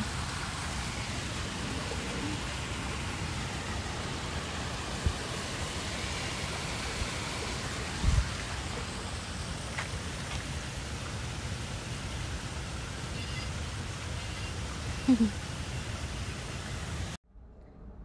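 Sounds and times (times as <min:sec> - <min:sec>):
rushing hiss of outdoor noise: 0:00.0 - 0:17.2.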